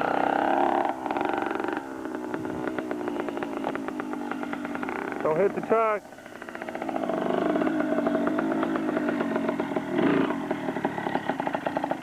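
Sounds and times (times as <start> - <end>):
dirt bike engine under throttle: 0.0 - 12.0.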